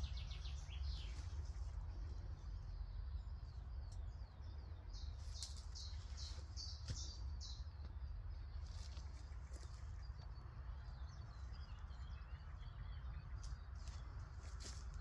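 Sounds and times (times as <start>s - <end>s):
songbird singing: 0.0s - 15.0s
steady low rumble: 0.0s - 15.0s.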